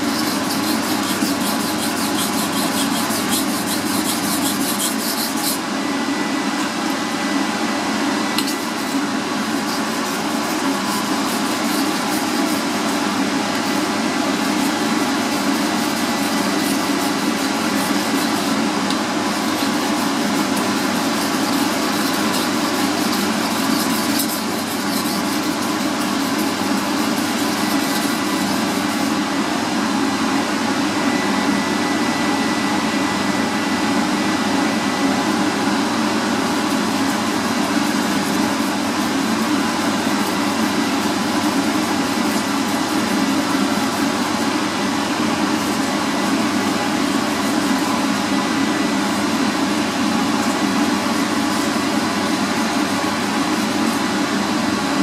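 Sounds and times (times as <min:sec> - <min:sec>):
mechanical hum and hiss: 0:00.0 - 0:55.0.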